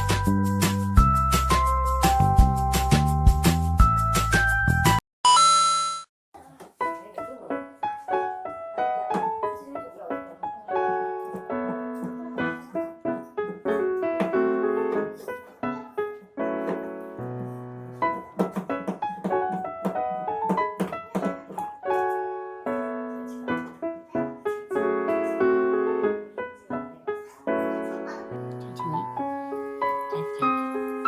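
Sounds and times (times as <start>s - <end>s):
piano music: 0.0s - 5.0s, 6.8s - 31.0s.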